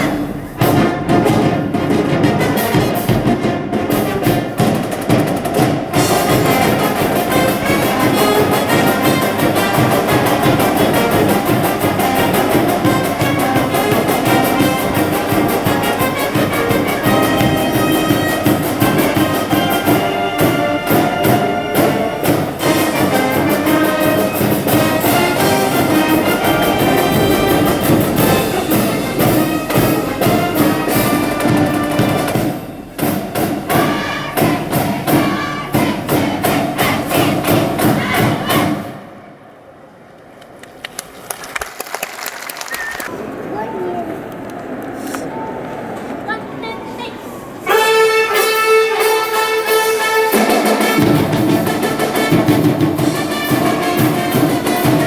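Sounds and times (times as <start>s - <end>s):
steady drum beat: 0.0s - 38.8s, 49.2s - 55.0s
brass band playing: 0.0s - 39.2s, 47.6s - 55.0s.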